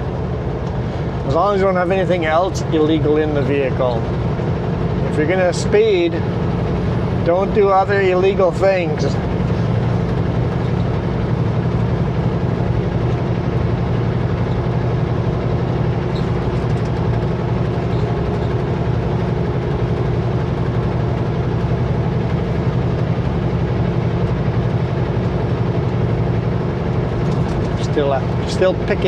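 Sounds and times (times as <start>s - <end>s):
truck diesel engine droning: 0.0s - 29.0s.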